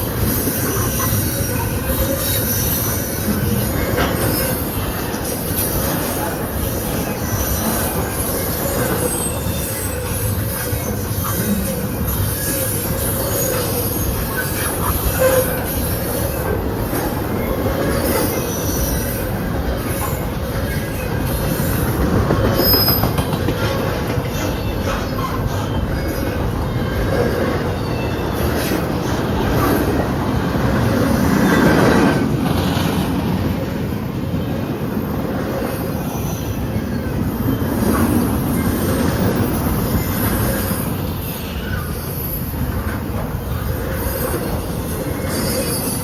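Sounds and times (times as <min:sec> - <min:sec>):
train wheel squeal: 0:00.0 - 0:46.0
train wheels rumbling on rail: 0:00.0 - 0:46.0.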